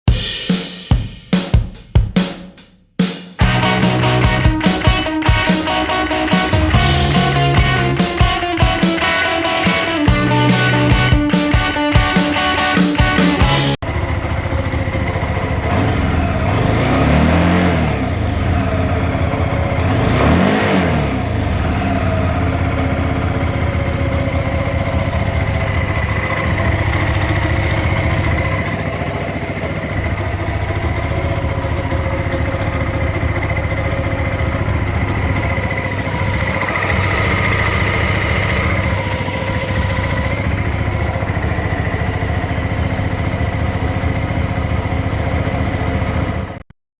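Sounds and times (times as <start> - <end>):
motorcycle engine idling: 3.4 - 46.7
motorcycle engine revving: 3.4 - 46.7.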